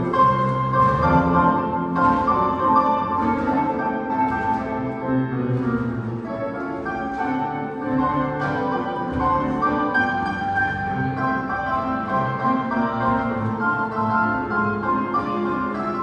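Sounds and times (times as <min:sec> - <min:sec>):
orchestral classical music: 0:00.0 - 0:16.0.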